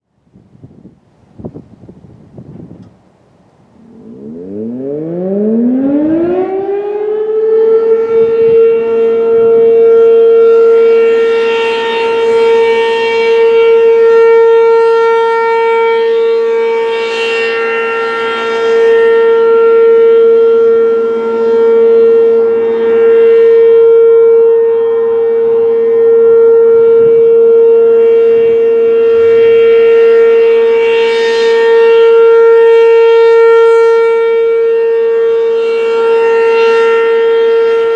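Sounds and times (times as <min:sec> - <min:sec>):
outdoor warning siren: 0:00.0 - 0:37.9.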